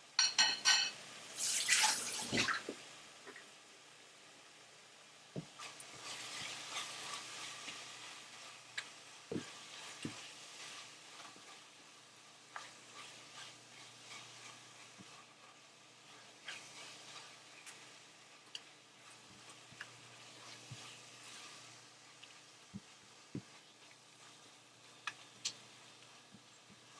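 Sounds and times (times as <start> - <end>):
food sizzling in a frying pan: 0.0 - 26.9.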